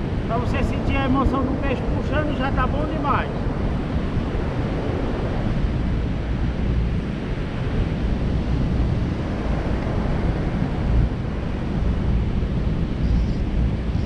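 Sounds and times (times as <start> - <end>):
breaking surf: 0.0 - 13.9
wind buffeting microphone: 0.0 - 14.0.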